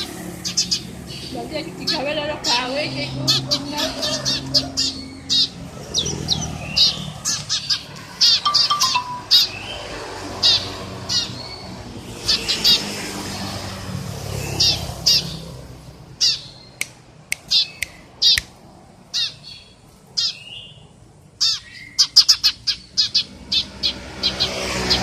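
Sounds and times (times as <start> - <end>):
sparrow chirping: 0.0 - 25.0.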